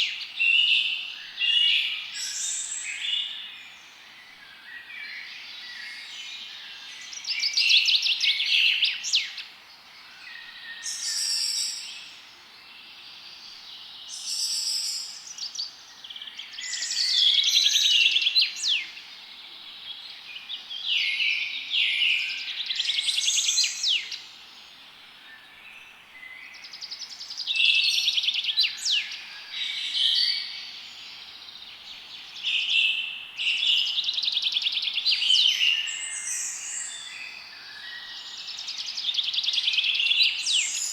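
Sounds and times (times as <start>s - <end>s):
songbirds trilling and chirping: 0.0s - 40.9s
steady background hiss: 0.0s - 40.9s.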